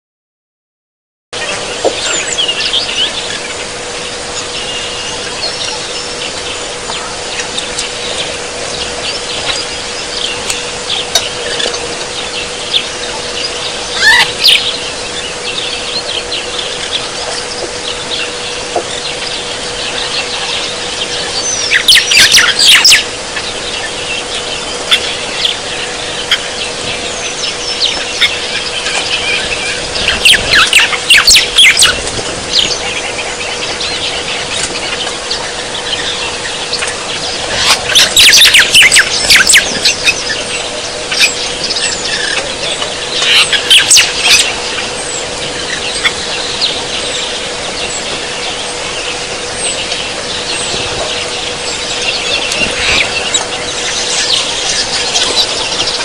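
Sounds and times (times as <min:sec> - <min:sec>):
birds chattering chirps: 0:01.4 - 0:56.0
steady low hum: 0:01.4 - 0:56.0.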